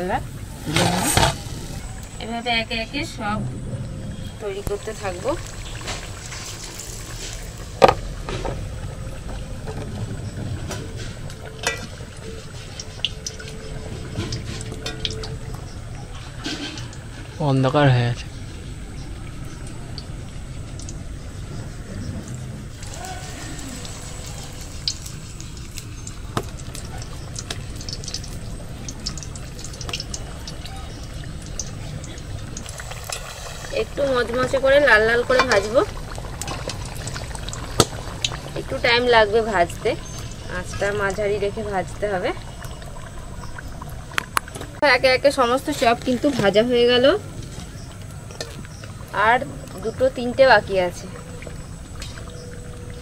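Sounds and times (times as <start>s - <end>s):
deep-frying sizzle: 0.0s - 53.0s
oil crackling and popping: 4.4s - 17.4s, 18.2s - 53.0s.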